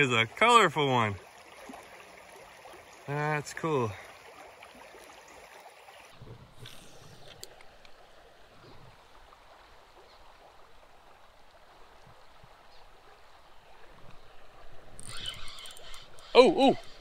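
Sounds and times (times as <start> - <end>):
flowing creek water: 0.0 - 17.0.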